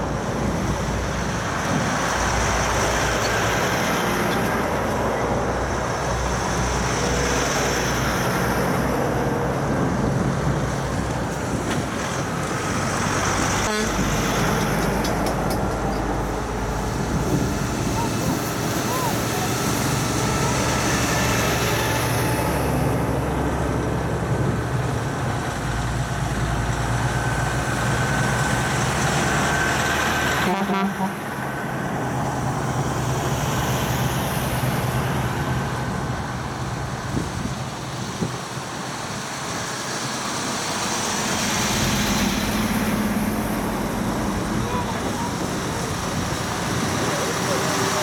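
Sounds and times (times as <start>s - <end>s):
diesel trucks driving past: 0.0s - 48.0s.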